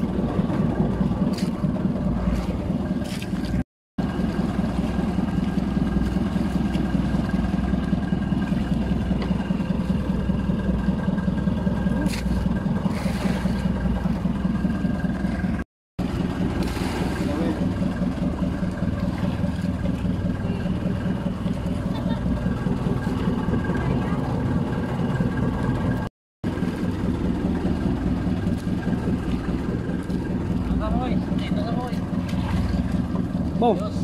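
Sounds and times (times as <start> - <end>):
boat engine running at low speed: 0.0 - 34.0.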